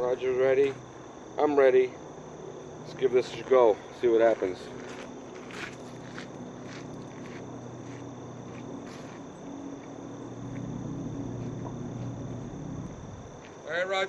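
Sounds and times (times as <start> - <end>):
insects chirring: 0.0 - 14.0
low steady hum: 0.0 - 14.0.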